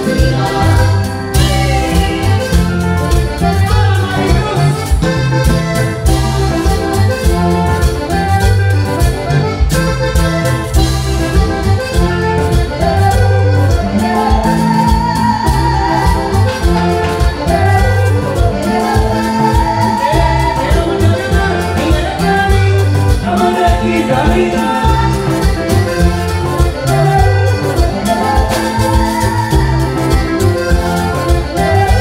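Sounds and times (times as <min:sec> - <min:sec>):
accordion melodic runs: 0:00.0 - 0:32.0
congas: 0:00.0 - 0:32.0
drum kit: 0:00.0 - 0:32.0.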